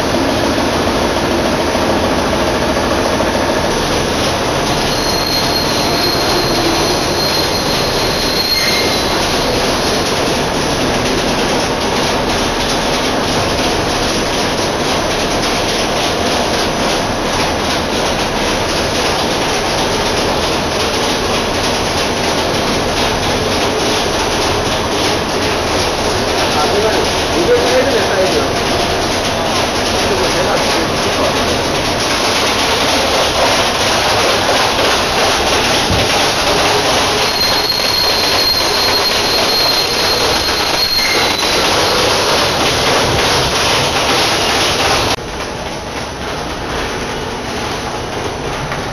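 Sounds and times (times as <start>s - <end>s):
production line mechanical din: 0.0s - 48.9s.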